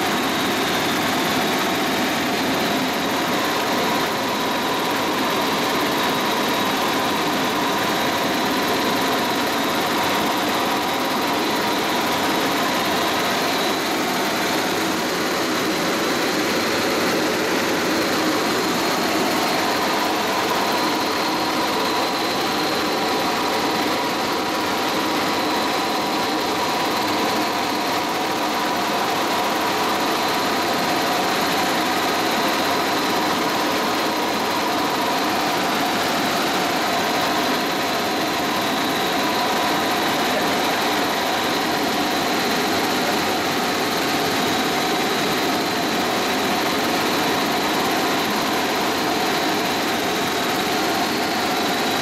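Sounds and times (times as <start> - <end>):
helicopter engine and rotor drone: 0.0 - 52.0
steady high whine: 0.0 - 52.0.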